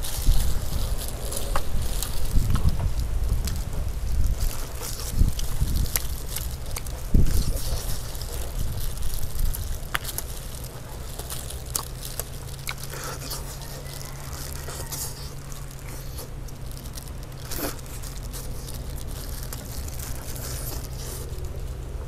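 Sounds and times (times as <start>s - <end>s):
chicken being torn and chewed: 0.0s - 21.9s
small crunches and clicks: 0.0s - 22.0s
steady low hum: 0.0s - 22.0s.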